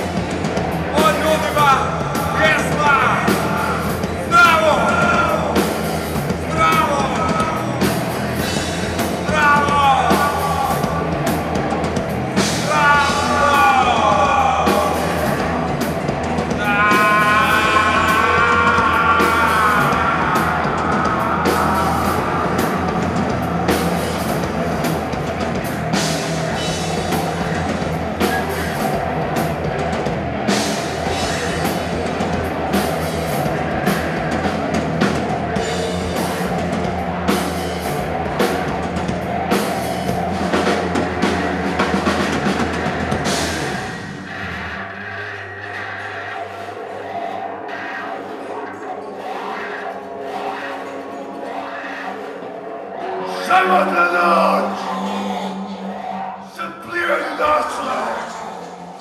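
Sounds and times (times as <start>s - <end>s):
drums: 0.0s - 59.0s.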